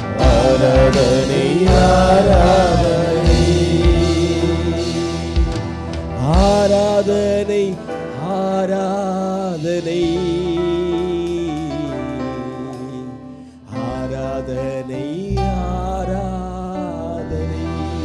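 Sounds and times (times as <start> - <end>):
live band playing: 0.0 - 14.1, 17.3 - 18.0
man singing into a microphone: 0.0 - 18.0.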